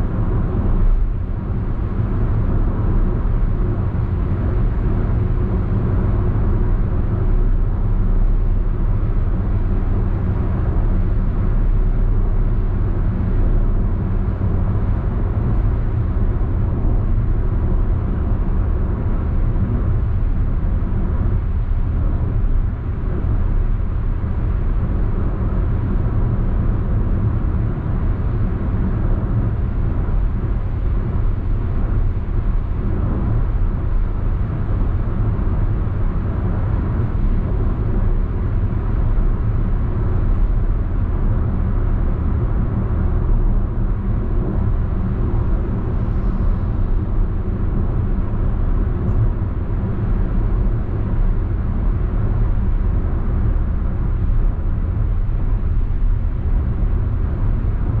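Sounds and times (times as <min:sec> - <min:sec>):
road and engine noise in car: 0:00.0 - 0:58.0.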